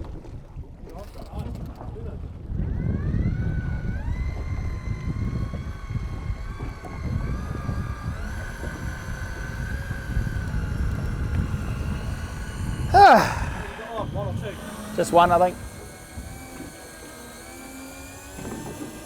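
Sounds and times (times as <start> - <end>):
electric reel motor whining: 2.7 - 19.0.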